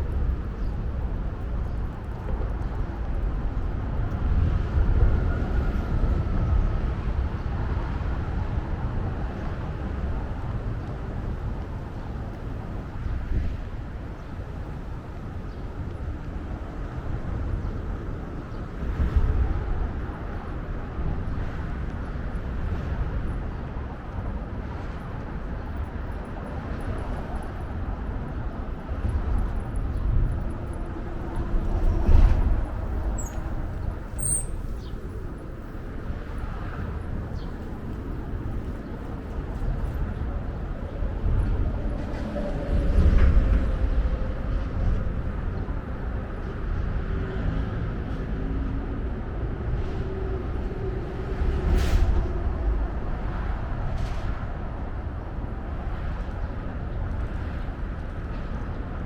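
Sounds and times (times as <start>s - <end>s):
distant traffic rumble: 0.0s - 59.0s
wind on microphone: 0.0s - 59.0s.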